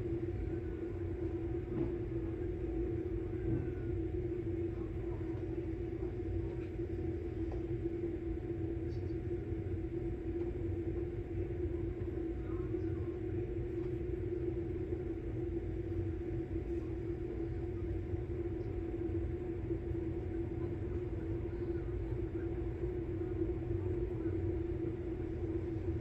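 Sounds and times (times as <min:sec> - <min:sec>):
washing machine humming: 0:00.0 - 0:26.0.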